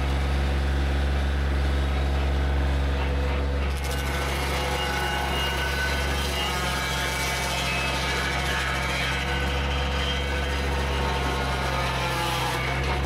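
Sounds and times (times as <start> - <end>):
saw blade grinding stump: 0.0 - 13.0
tractor diesel engine drone: 0.0 - 13.0.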